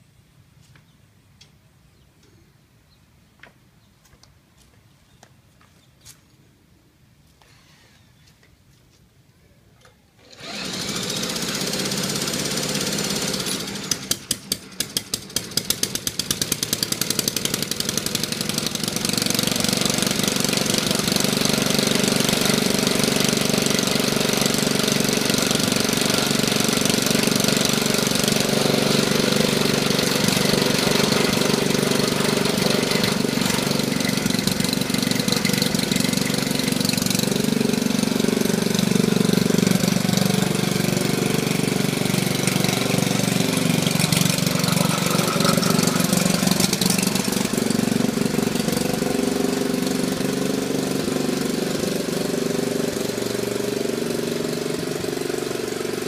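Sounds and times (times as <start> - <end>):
engine cranking whir: 10.2 - 56.0
engine firing and running: 10.2 - 56.0.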